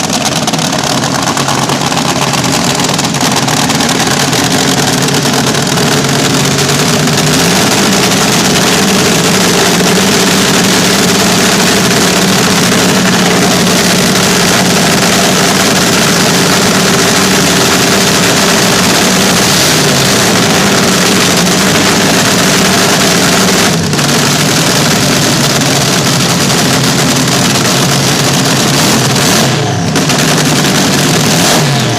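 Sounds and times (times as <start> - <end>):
dragster engines idling loudly: 0.0 - 31.9.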